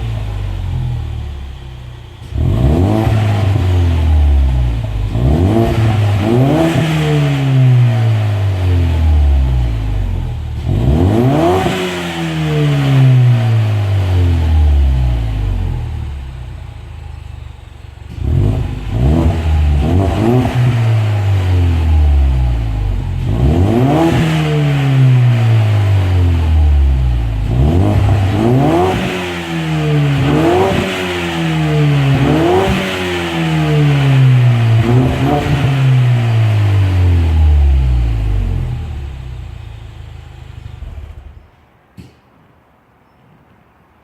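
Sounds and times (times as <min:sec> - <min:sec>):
car engine revving: 0:00.0 - 0:41.4.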